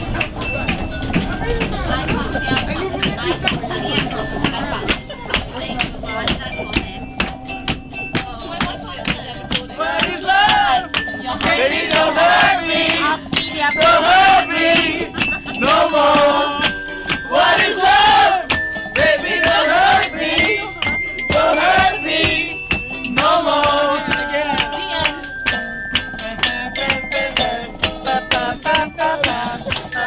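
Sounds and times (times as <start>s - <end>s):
group singing and chanting: 0.0s - 30.0s
hand claps: 0.0s - 30.0s.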